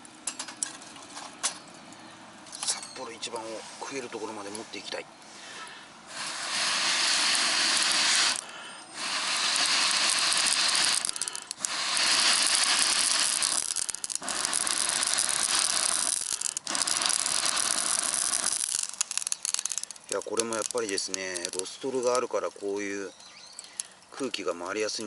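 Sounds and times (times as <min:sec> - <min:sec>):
air rushing onto wood fire: 0:02.6 - 0:23.0, 0:23.6 - 0:25.0.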